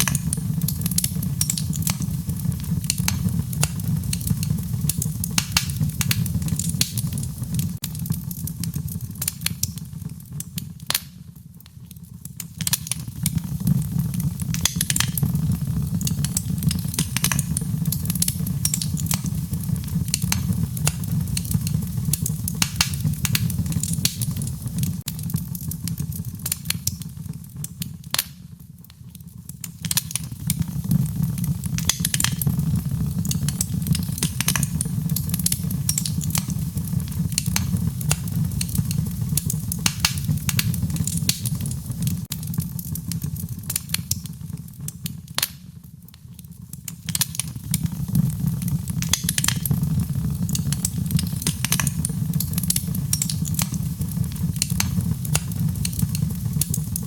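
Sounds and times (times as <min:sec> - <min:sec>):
fire crackles and pops: 0:00.0 - 0:57.0
wood fire rumbling: 0:00.0 - 0:57.0.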